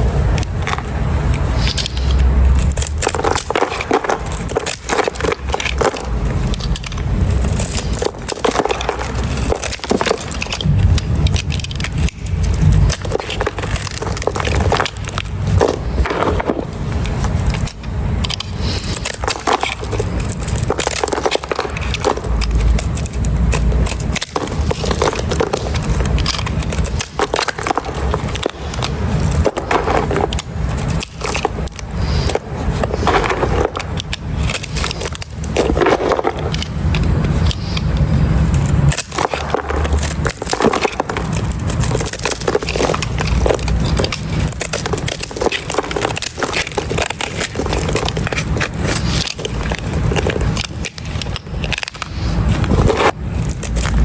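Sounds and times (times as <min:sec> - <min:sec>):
soap being scraped: 0:00.0 - 0:54.0.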